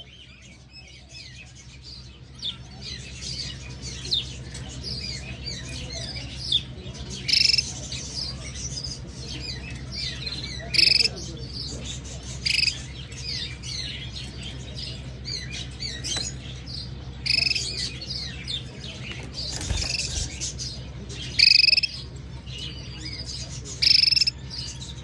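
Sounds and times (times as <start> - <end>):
canary chirping and twittering: 0.0 - 25.0.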